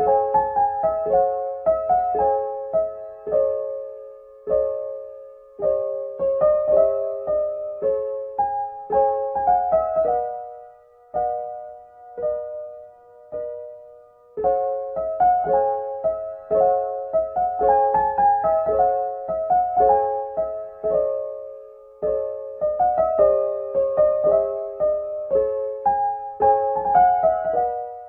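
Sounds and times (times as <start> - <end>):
gentle piano melody: 0.0 - 28.0.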